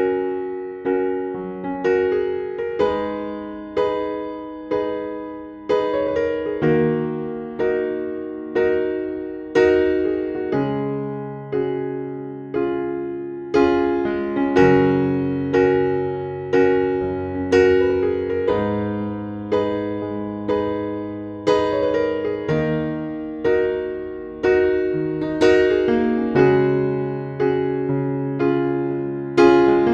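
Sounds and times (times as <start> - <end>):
slow piano chords: 0.0 - 29.9.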